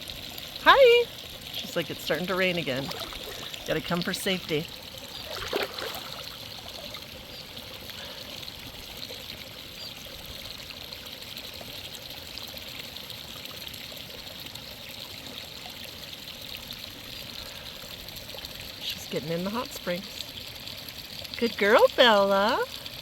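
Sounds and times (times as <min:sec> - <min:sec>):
water trickling and pouring: 0:00.0 - 0:23.0.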